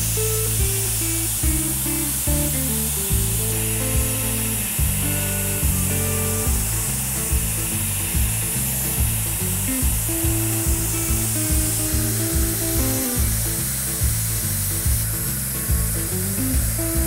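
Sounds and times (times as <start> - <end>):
background music with steady beat: 0.0 - 17.0
dry ice blaster hissing: 0.0 - 17.0.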